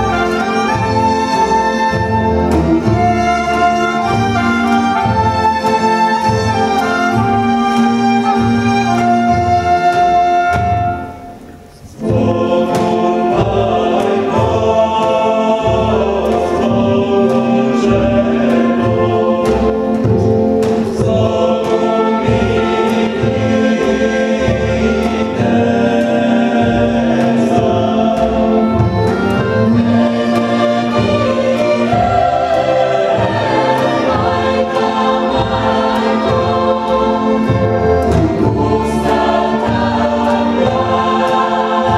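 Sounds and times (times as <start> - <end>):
folk string band: 0.0 - 41.9
mixed choir singing folk song: 0.0 - 41.9.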